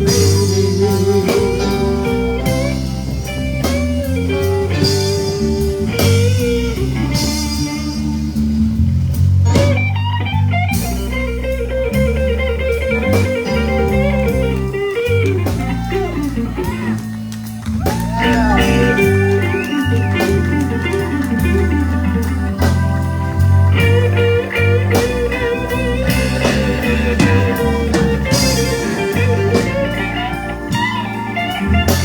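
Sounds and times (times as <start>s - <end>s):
bass and drums: 0.0s - 32.0s
electric guitar lead: 0.0s - 32.0s.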